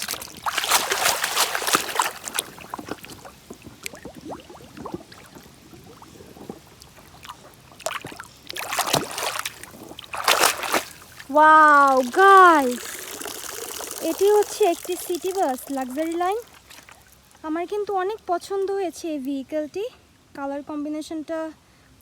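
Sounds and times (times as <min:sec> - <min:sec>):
water splashing and trickling: 0:00.0 - 0:19.4.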